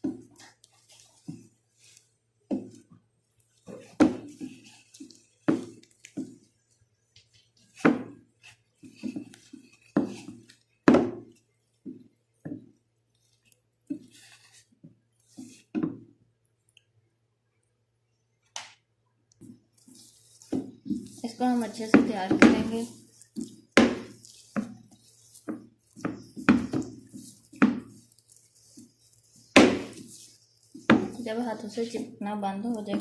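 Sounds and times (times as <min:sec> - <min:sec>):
dough squishing by hand: 0:00.0 - 0:33.0.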